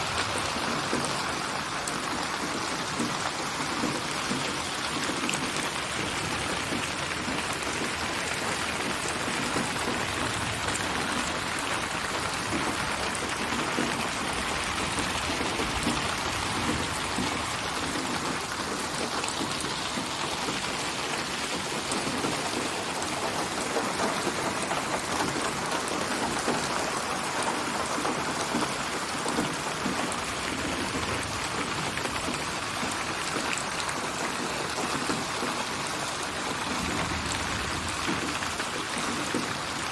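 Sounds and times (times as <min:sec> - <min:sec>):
dense rain pattering: 0:00.0 - 0:39.9.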